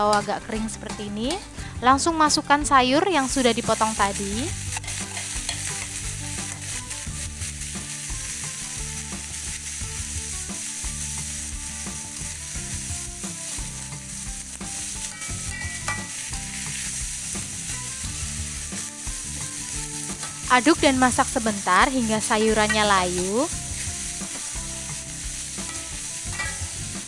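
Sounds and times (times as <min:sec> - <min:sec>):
vegetables sizzling in hot oil: 0:02.0 - 0:27.0
metal spatula scraping a wok: 0:03.3 - 0:20.5, 0:22.4 - 0:27.0.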